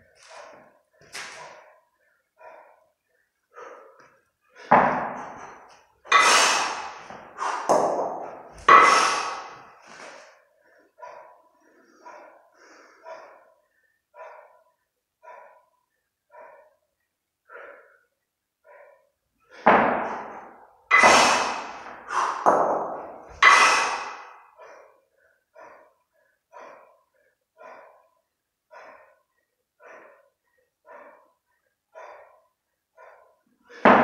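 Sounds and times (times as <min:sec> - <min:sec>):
rhythmic breathing: 0:00.0 - 0:33.8.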